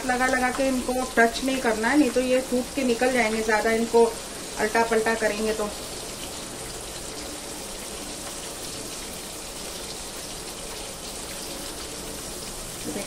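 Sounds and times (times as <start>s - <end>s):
oil sizzling and bubbling: 0.0s - 13.0s.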